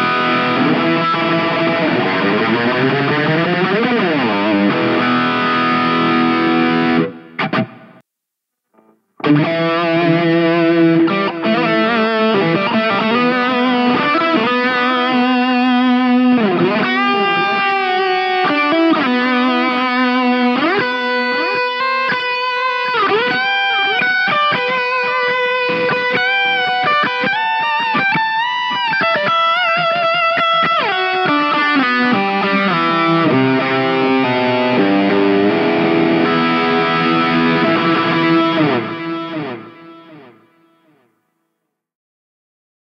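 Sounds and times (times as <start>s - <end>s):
overdriven electric guitar lead: 0.0s - 8.0s, 8.8s - 41.0s.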